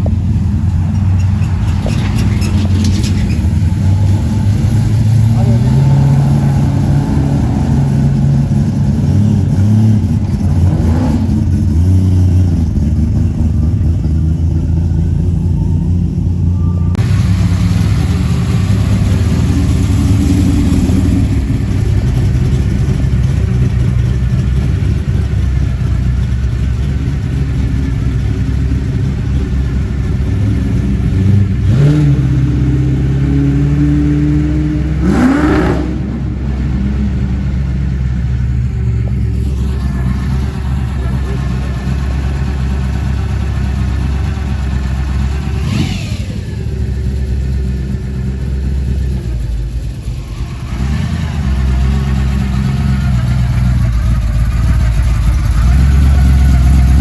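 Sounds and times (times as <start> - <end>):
muscle car engine running: 0.0 - 57.0.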